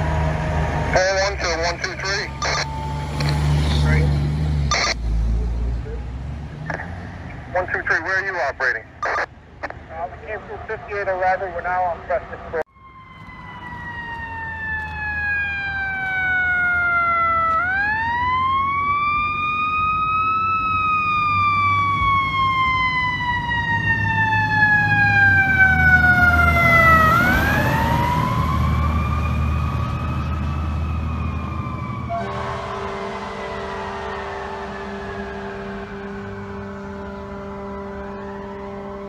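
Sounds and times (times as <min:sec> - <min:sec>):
fire truck siren wailing: 0:00.0 - 0:06.8, 0:10.0 - 0:39.0.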